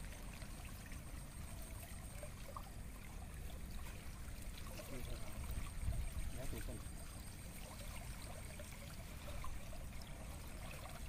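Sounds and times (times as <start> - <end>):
water trickling and sloshing: 0.0 - 11.0.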